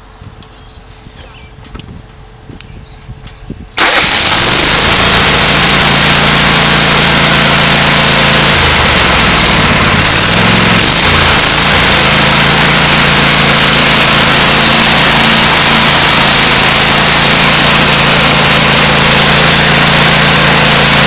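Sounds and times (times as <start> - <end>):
riding mower engine running: 0.0 - 21.0.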